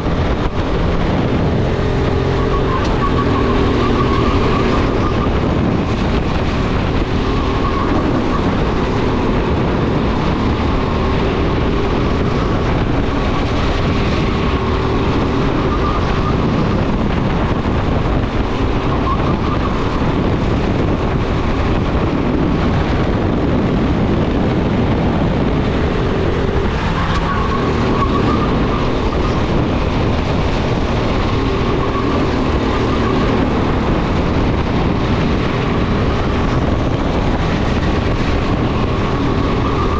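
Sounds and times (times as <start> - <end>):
kart engine racing: 0.0 - 39.9
wind rumble on microphone: 0.0 - 39.9.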